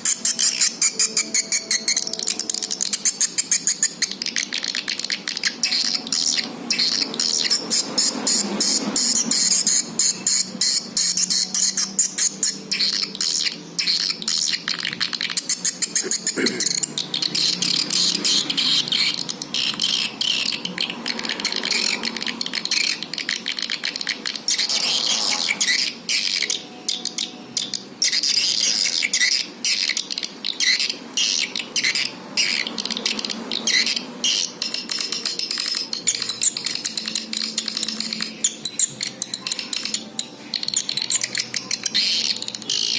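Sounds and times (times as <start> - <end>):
swiftlet flock chirping: 0.0 - 42.9.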